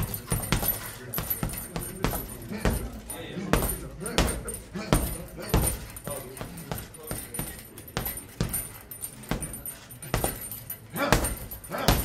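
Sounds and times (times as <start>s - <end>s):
punches thudding on heavy bag: 0.0s - 12.0s.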